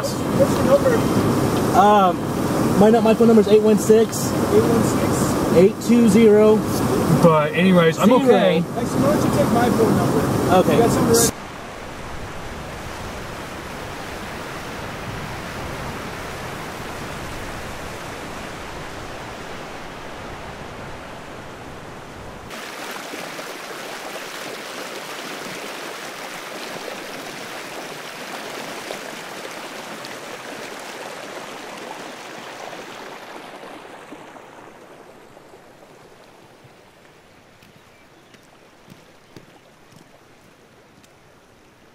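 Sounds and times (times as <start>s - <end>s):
floodwater rushing and roaring: 0.0s - 41.9s.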